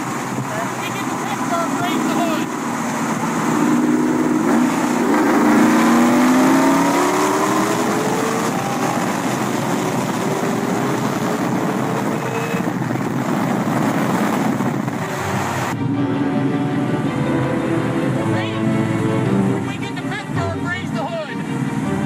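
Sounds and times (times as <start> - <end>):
car engine pulling hard: 0.0 - 22.0
wind and road rush: 0.0 - 22.0.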